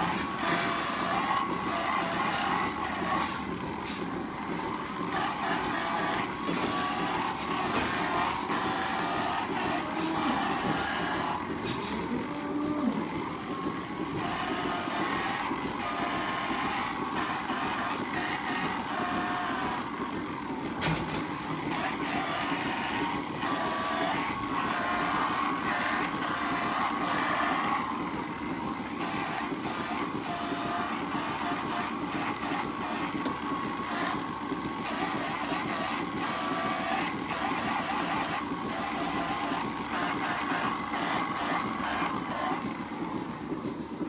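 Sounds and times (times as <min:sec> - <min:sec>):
milking machinery hum: 0:00.0 - 0:44.0
rotary brush whirring: 0:00.0 - 0:44.0.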